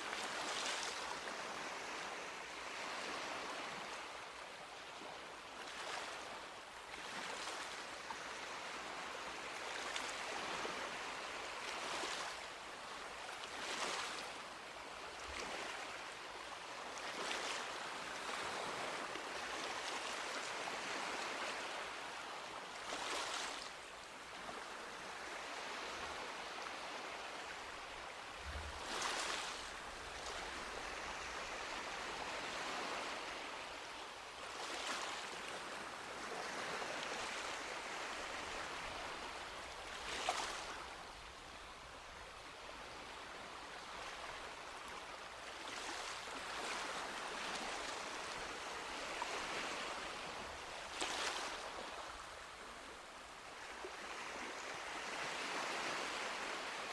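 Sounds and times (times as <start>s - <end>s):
small waves breaking on beach: 0.0s - 56.9s.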